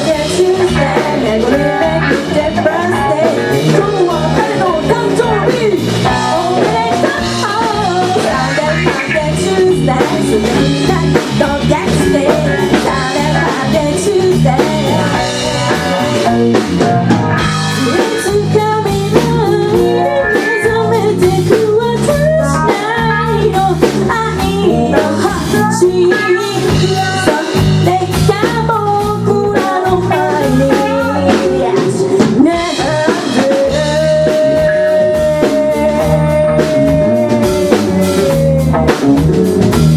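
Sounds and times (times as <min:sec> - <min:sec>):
person singing lead vocal: 0:00.0 - 0:39.4
drum kit beat: 0:00.0 - 0:39.9
electric guitar: 0:00.0 - 0:39.9.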